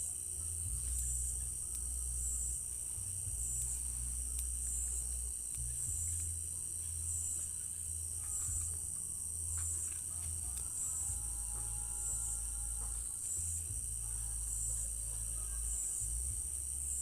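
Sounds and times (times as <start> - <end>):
crickets chirring: 0.0 - 17.0
low steady rumble: 0.0 - 17.0.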